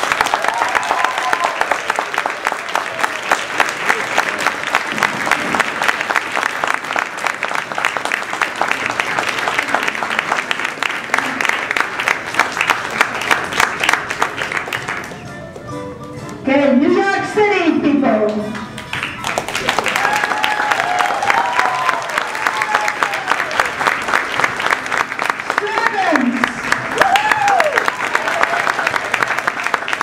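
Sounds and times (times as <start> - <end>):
audience applauding: 0.0 - 15.3, 18.6 - 30.0.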